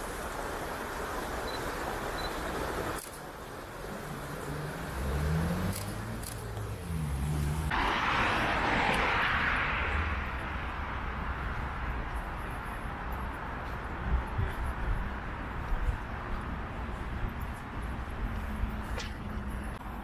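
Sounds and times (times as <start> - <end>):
rush of vehicle noise: 0.0 - 20.0
vehicle engines running: 0.0 - 20.0.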